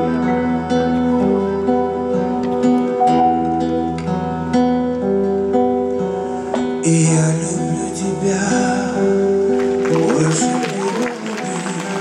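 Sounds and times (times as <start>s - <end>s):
acoustic guitar and piano ballad: 0.0s - 12.0s.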